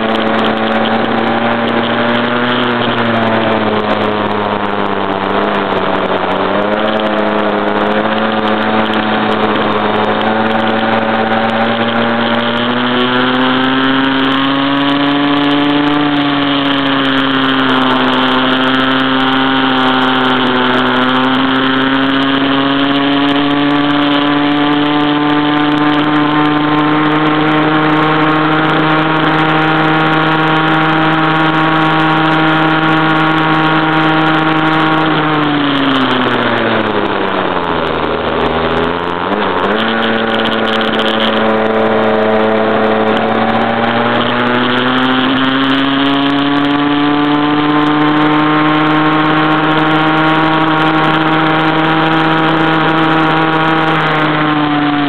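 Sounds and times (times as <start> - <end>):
small two-stroke engine running: 0.0 - 55.0.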